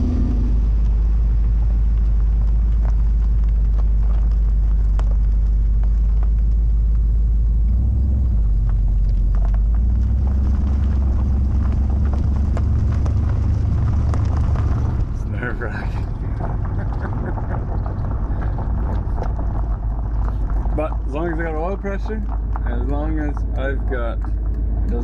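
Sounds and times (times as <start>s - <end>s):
deep engine exhaust note: 0.0s - 25.0s
gravel crackling under tyres: 0.0s - 25.0s.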